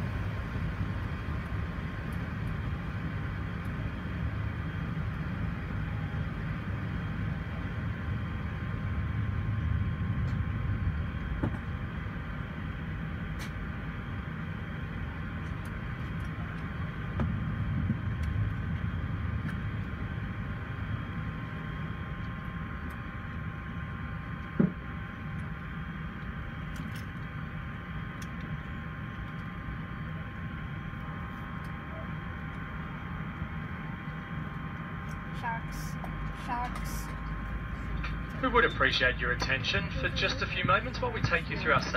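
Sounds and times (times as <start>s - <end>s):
aircraft cabin low rumble: 0.0s - 41.9s
faint steady whine: 0.0s - 41.9s.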